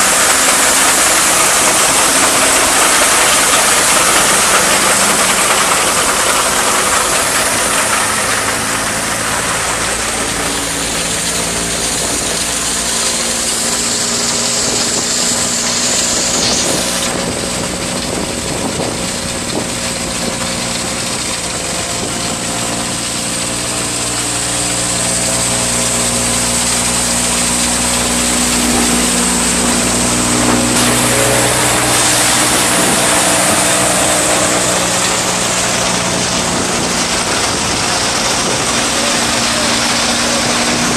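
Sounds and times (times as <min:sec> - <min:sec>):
threshing machine rushing hiss: 0:00.0 - 0:40.9
tractor engine hum: 0:00.0 - 0:40.9.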